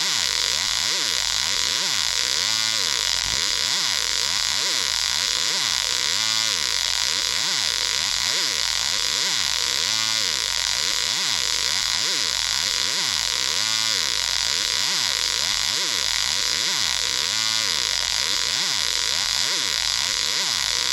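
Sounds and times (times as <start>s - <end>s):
loud steady hiss: 0.0s - 20.9s.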